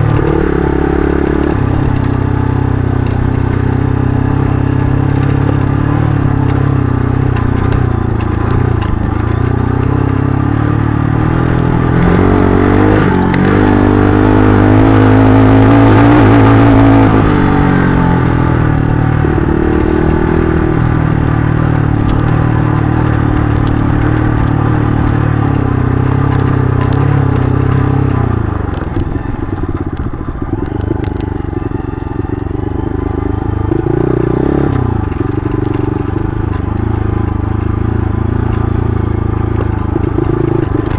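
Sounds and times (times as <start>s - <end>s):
motorcycle engine pulling: 0.0s - 40.9s.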